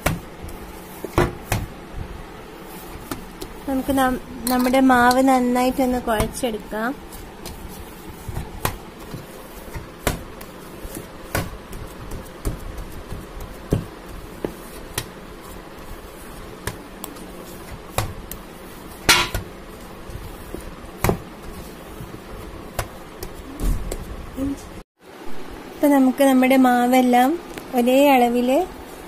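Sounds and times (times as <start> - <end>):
dough kneaded in metal bowl: 0.0 - 24.3.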